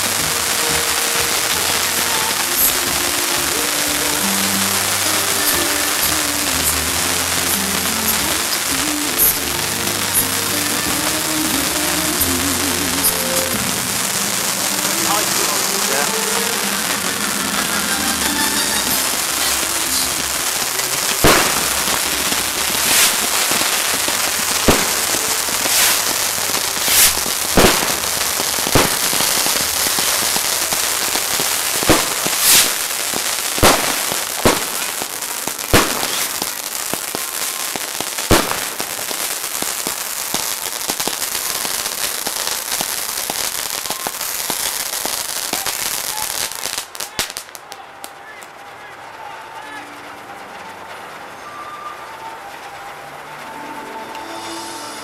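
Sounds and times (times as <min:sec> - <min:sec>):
fireworks bangs: 0:00.0 - 0:55.0
fireworks hissing and crackling: 0:00.0 - 0:55.0.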